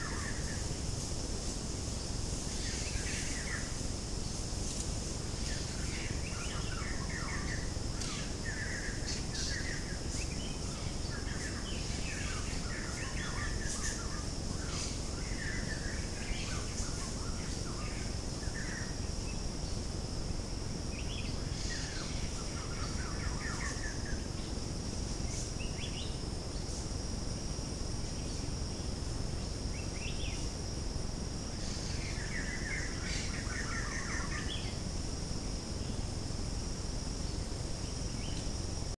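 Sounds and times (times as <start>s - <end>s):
high-pitched insect drone: 0.0s - 39.0s
low hiss: 0.0s - 39.0s.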